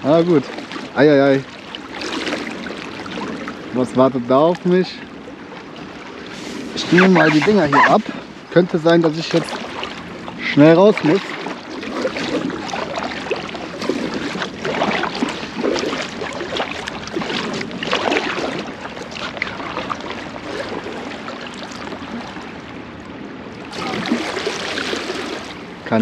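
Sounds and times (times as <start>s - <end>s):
river water splashing and rushing: 0.0s - 26.0s.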